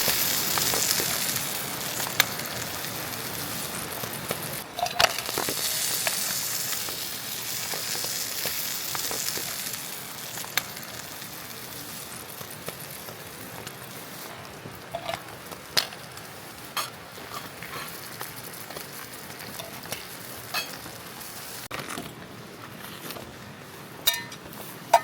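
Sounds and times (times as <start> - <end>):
food sizzling in a pan: 0.0 - 21.7.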